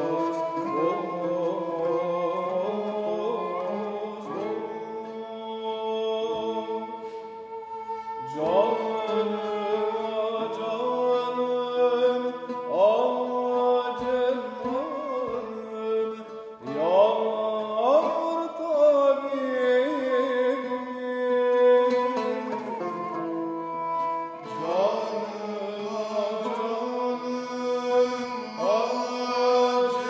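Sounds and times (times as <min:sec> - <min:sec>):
man singing melismatic phrases: 0:00.0 - 0:07.1, 0:08.2 - 0:23.0, 0:24.4 - 0:30.0
bowed fiddle: 0:00.0 - 0:30.0
lute: 0:00.0 - 0:30.0.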